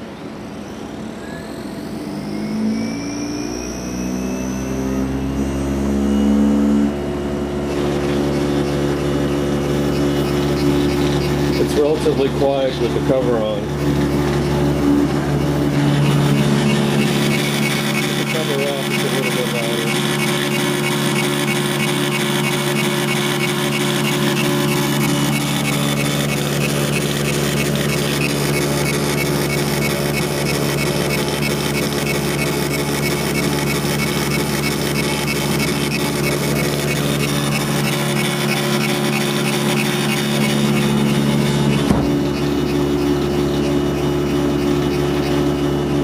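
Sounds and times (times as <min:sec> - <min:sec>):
dot matrix printer printing: 0:07.7 - 0:46.0.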